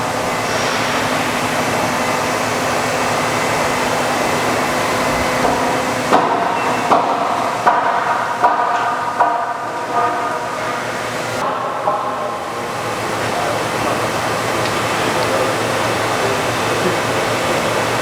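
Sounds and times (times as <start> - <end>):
machine noise: 0.0 - 18.0.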